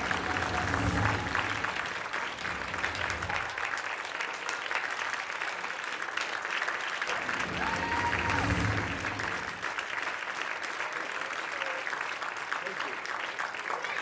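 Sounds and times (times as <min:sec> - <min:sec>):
crowd clapping: 0:00.0 - 0:14.0.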